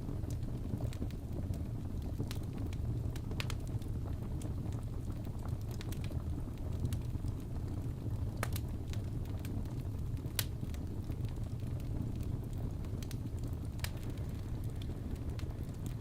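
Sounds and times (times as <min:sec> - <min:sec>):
fire crackles and pops: 0:00.0 - 0:16.0
fire flames rumbling: 0:00.0 - 0:16.0.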